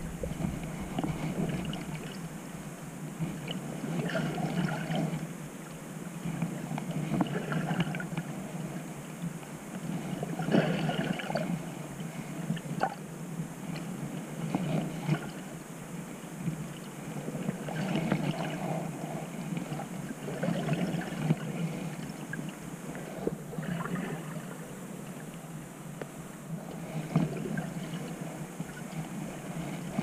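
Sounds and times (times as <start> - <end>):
muffled water sloshing and rushing: 0.0 - 30.0.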